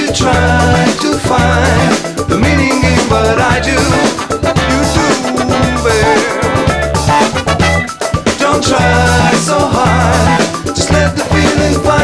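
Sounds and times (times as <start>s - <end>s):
bass line: 0.0s - 12.0s
drum kit beat: 0.0s - 12.0s
instrumental funk music: 0.0s - 12.0s.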